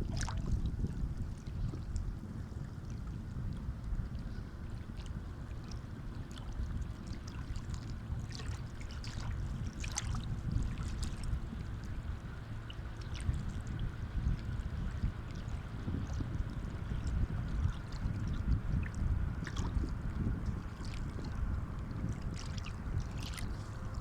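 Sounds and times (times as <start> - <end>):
crackling water splashes: 4.4 - 24.0.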